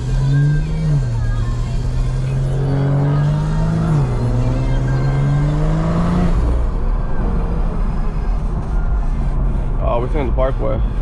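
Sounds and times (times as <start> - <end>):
car engine accelerating: 0.0 - 11.0
road and wind noise: 0.0 - 11.0.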